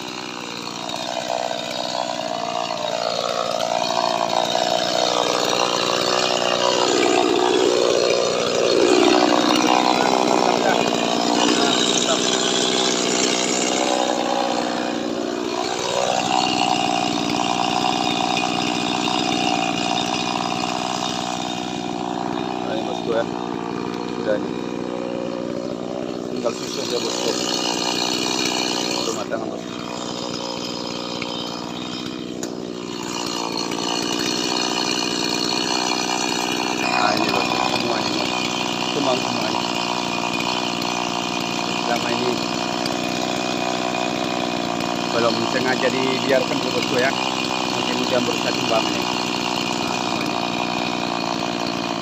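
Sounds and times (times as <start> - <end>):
chainsaw running: 0.0 - 52.0.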